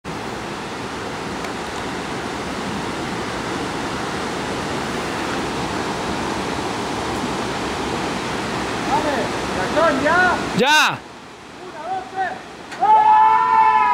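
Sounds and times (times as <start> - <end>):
mountain river rushing: 0.1 - 13.9.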